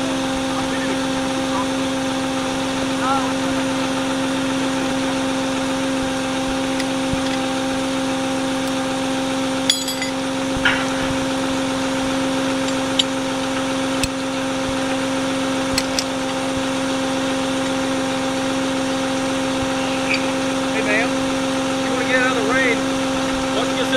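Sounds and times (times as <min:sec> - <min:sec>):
vehicle engine idling: 0:00.0 - 0:23.9.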